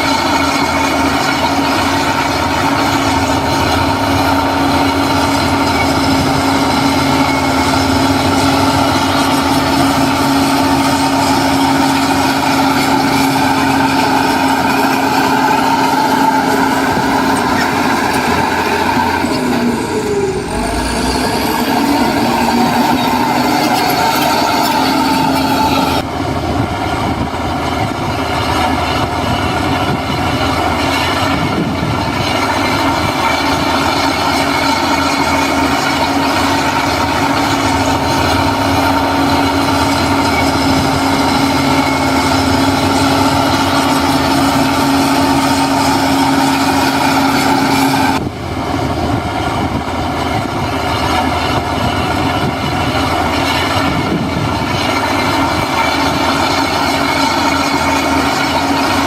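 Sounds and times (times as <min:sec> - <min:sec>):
diesel engine of heavy machine: 0:00.0 - 0:59.0
steady whine: 0:00.0 - 0:59.0.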